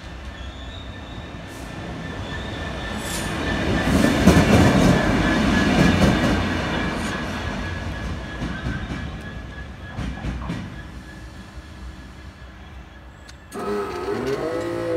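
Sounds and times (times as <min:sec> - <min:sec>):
diesel locomotive passing: 0:00.0 - 0:14.9
train wheel noise: 0:01.4 - 0:14.9.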